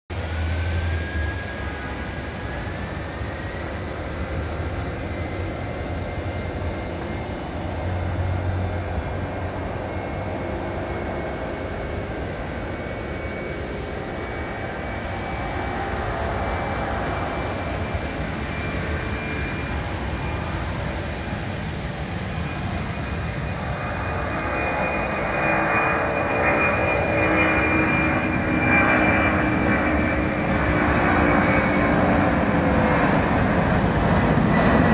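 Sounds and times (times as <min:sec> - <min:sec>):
jet engines at takeoff: 0:00.1 - 0:34.9.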